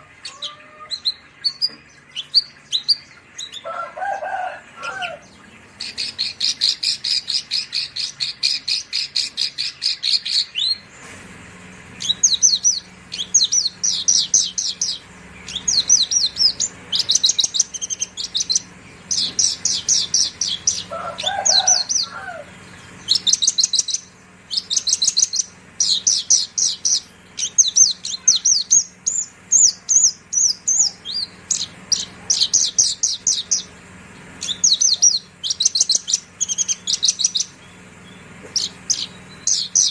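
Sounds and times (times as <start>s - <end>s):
lark singing rapid trills: 0.0s - 10.9s, 11.8s - 39.9s.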